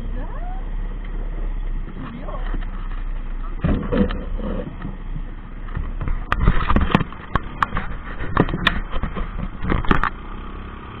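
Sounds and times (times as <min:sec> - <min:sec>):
buggy engine running: 0:00.0 - 0:11.0
knocks and rattles over rough ground: 0:01.0 - 0:10.5.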